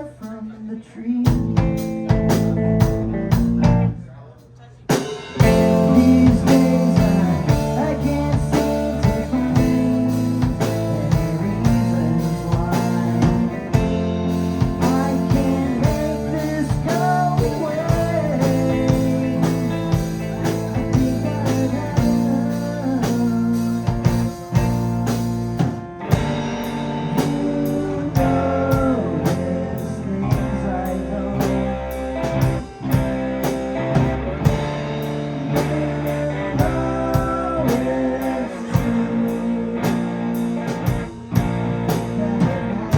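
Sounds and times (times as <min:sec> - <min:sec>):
bass guitar: 0:00.0 - 0:42.9
keyboards: 0:00.0 - 0:42.9
electric guitar: 0:01.2 - 0:04.0, 0:04.9 - 0:42.9
drum kit: 0:01.3 - 0:04.0, 0:04.8 - 0:42.9.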